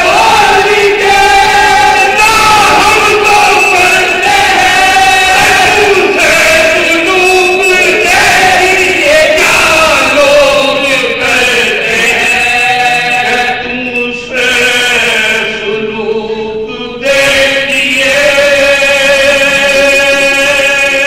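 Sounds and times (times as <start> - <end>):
men chanting: 0.0 - 21.0.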